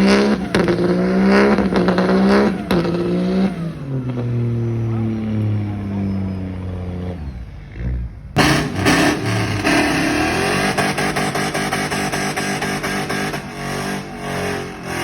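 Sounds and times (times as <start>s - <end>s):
truck engine revving with crackling: 0.0s - 15.0s.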